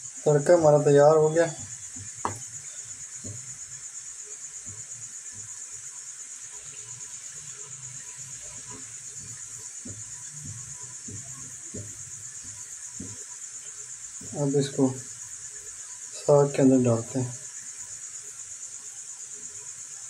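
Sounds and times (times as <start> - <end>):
garlic frying in oil: 0.0 - 20.0.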